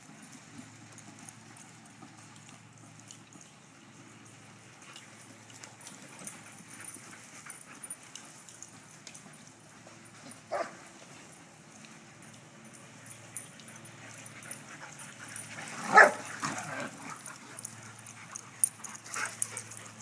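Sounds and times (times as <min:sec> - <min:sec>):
dogs moving about: 0:00.0 - 0:20.0.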